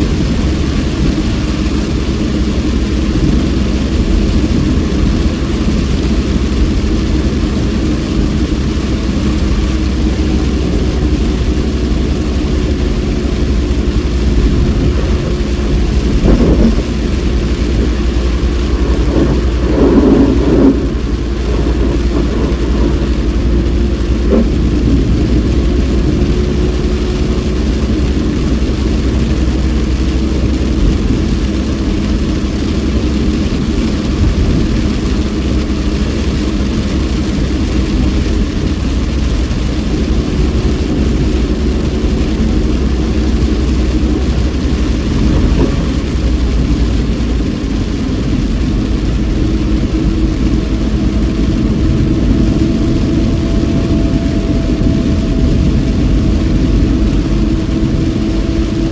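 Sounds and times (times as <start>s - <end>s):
engine and road rumble: 0.0s - 58.9s
rain and tyre spray hiss: 0.0s - 58.9s.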